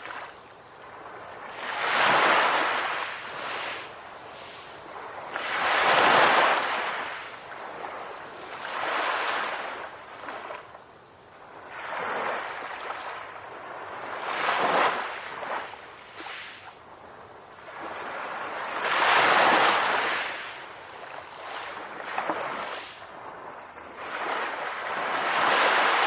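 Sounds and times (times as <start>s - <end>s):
ocean waves washing onto shore: 0.0s - 26.0s.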